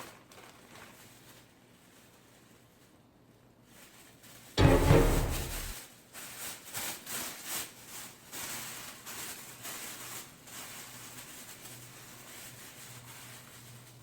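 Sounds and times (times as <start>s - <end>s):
packaging rustling and crinkling: 0.0s - 2.9s, 3.6s - 4.6s, 6.0s - 14.0s.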